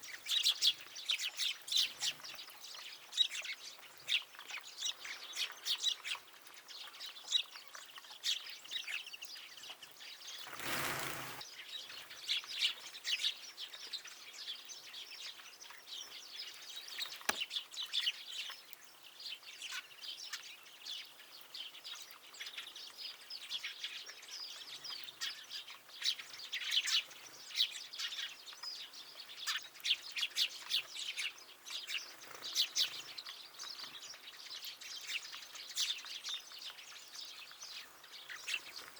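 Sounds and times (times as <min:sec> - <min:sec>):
songbirds chirping and twittering: 0:00.0 - 0:38.9.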